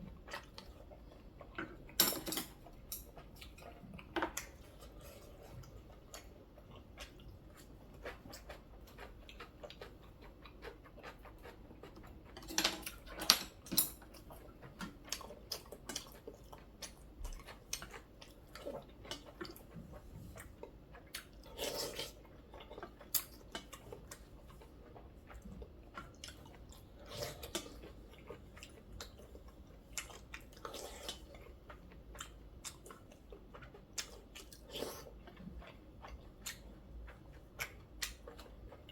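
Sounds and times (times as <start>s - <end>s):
person chewing: 2.7s - 13.2s, 14.0s - 38.9s.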